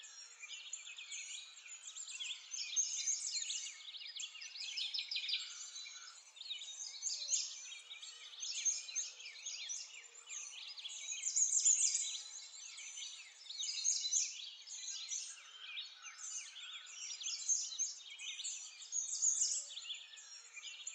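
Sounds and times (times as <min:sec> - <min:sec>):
small birds chirping chorus: 0:00.0 - 0:20.9.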